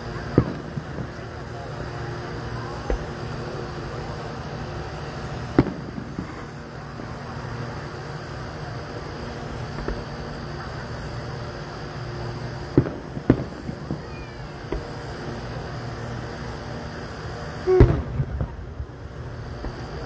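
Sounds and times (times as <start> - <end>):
fireworks booming: 0.0 - 20.0
steady low hum: 0.0 - 20.0.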